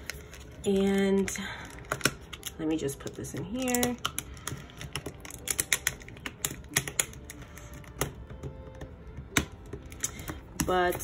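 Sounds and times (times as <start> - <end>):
fingernails tapping pages and coil: 0.0 - 11.0.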